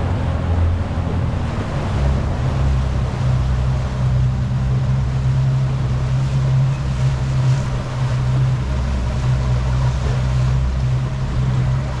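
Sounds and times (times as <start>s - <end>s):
boat engine drone: 0.0s - 12.0s
wind and water rushing: 0.0s - 12.0s.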